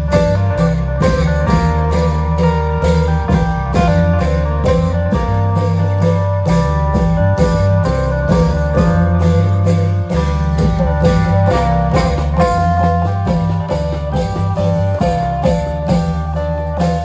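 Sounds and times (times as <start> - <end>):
bass notes: 0.0 - 17.0
drum strokes: 0.0 - 17.0
plucked string melody: 0.0 - 17.0.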